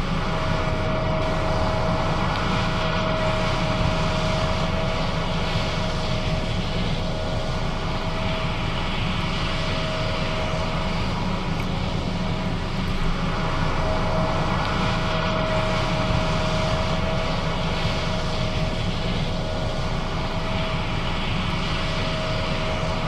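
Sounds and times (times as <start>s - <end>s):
combine engine drone: 0.0s - 23.0s
steady whine: 0.0s - 23.0s.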